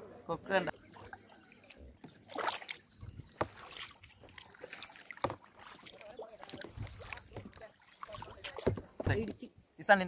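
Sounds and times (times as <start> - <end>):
kayak paddles splashing in water: 0.7 - 9.5.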